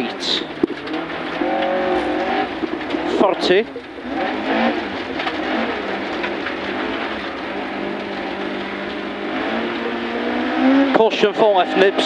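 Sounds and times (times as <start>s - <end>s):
car engine running hard: 0.0s - 12.0s
tyre and road noise: 0.0s - 12.0s.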